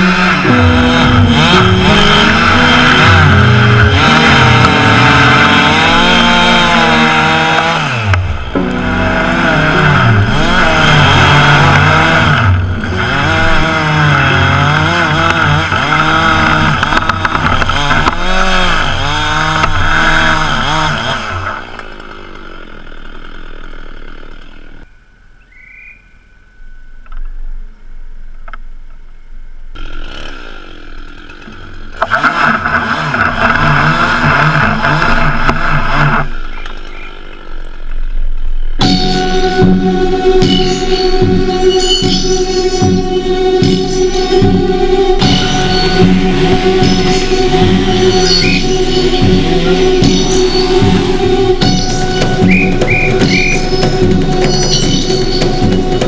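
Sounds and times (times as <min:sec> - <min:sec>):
chainsaw cutting: 0:00.0 - 0:24.8, 0:29.7 - 0:37.8, 0:38.8 - 0:56.0.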